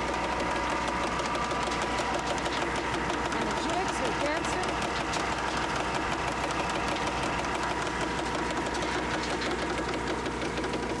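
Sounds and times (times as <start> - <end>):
fast mechanical rattle: 0.0 - 11.0
steady machine hum: 0.0 - 11.0.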